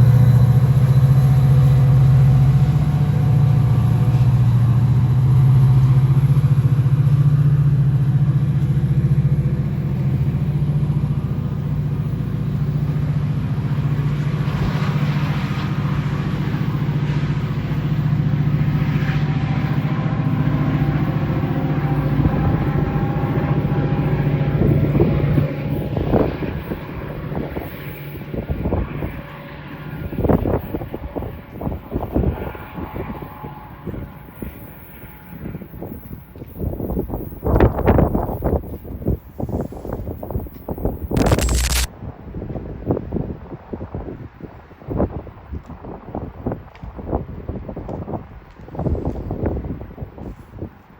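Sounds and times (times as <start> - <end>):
diesel locomotive drone: 0.0 - 50.9.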